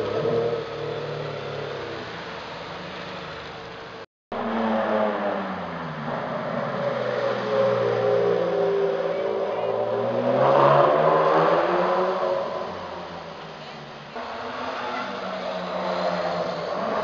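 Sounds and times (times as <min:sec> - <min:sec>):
car engine accelerating: 0:00.0 - 0:17.0
car engine revving: 0:00.0 - 0:17.0.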